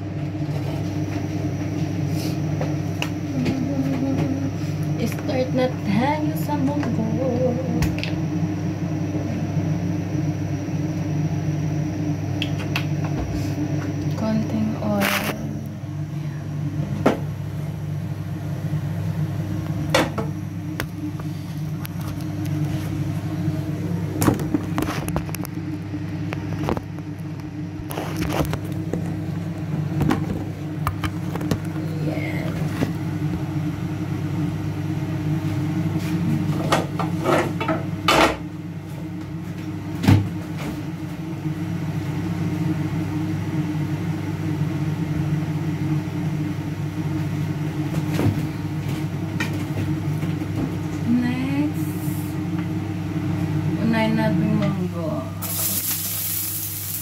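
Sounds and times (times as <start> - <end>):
kitchen appliance humming: 0.0 - 57.0.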